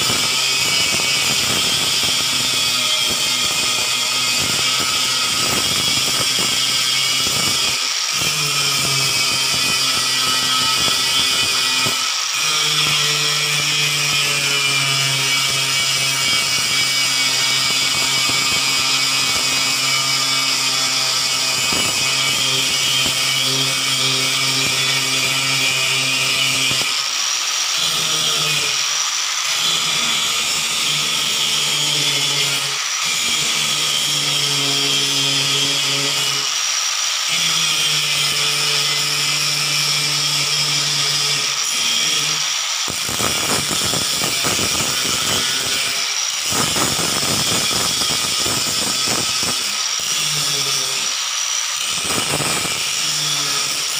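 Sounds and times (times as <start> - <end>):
angle grinder grinding steel: 0.0 - 53.9.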